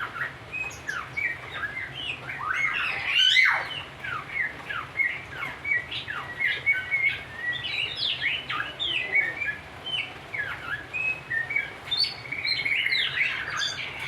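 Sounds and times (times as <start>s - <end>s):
songbird chirping and whistling: 0.0s - 14.0s.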